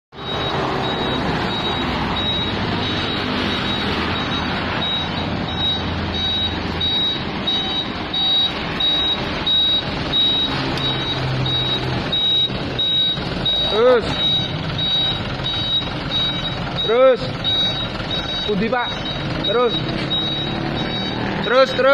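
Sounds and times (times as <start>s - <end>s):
truck engine running: 0.1s - 21.9s
truck reversing alarm beeping: 0.1s - 21.9s.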